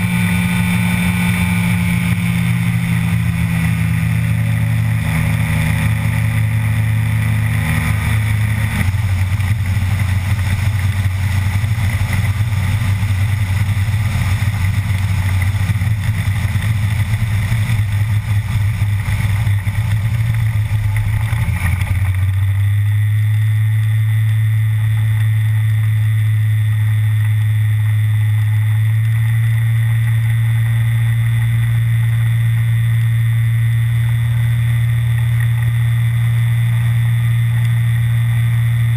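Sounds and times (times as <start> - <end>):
aircraft engine and propeller: 0.0 - 38.9.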